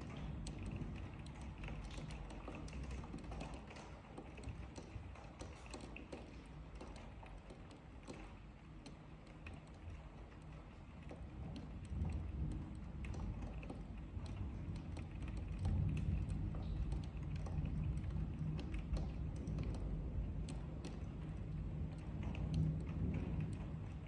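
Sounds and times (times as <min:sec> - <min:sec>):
light ticks and crackles of rain: 0:00.0 - 0:24.0.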